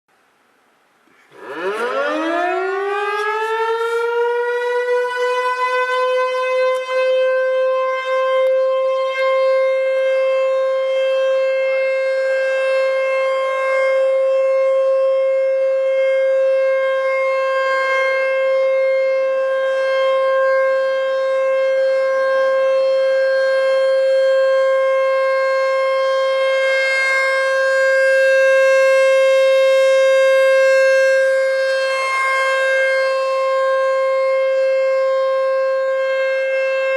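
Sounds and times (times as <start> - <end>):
warning siren: 1.2 - 36.9.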